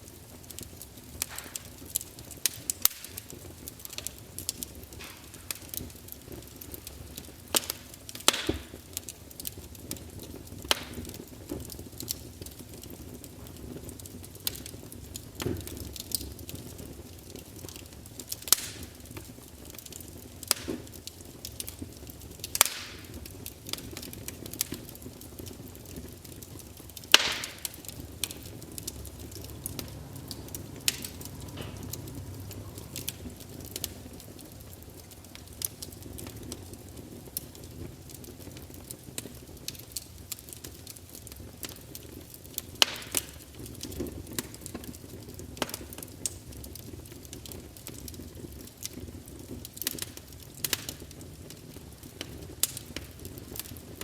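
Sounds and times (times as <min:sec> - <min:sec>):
campfire crackling and popping: 0:00.0 - 0:54.0
low rumble of flames: 0:00.0 - 0:54.0.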